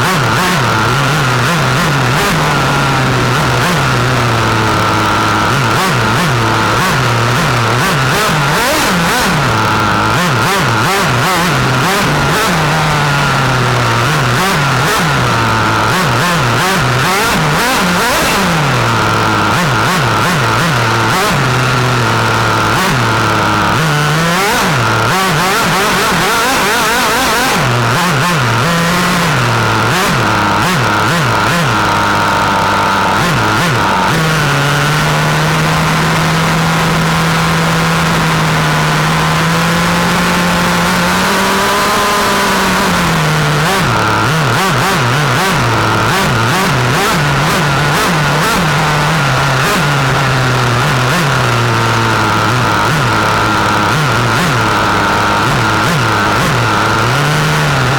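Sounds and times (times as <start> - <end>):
small glow engine revving: 0.0 - 57.9.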